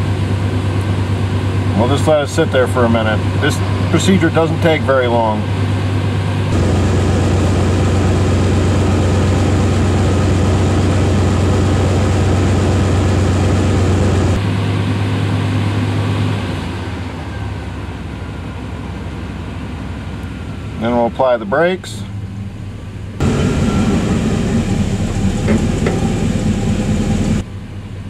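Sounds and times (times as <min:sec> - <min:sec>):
truck engine and drivetrain humming: 0:00.0 - 0:28.0.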